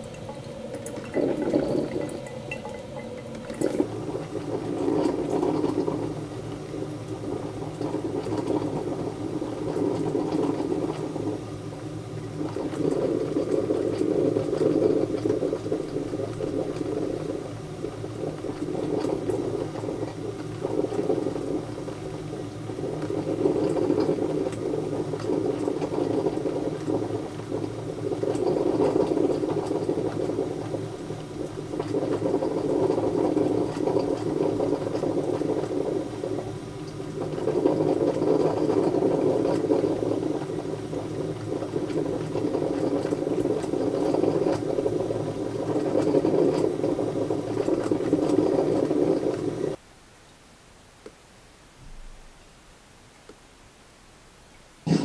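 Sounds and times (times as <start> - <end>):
coffee machine water gurgling: 0.0 - 49.8, 54.8 - 55.0.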